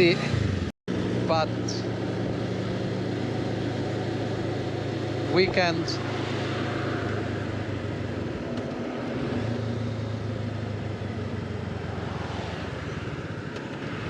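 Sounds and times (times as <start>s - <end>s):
motorcycle engine running: 0.0s - 14.0s
wind rushing over microphone: 0.9s - 14.0s.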